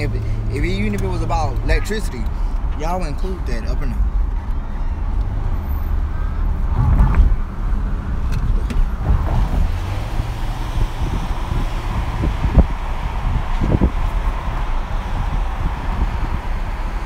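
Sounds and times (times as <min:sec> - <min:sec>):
car interior low rumble: 0:00.0 - 0:17.0.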